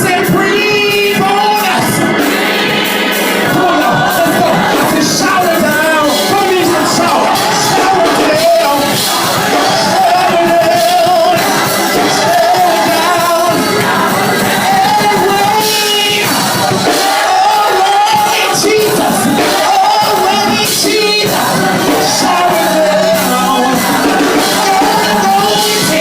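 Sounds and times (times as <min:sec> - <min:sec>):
gospel choir singing: 0:00.0 - 0:26.0
people shouting: 0:03.4 - 0:26.0.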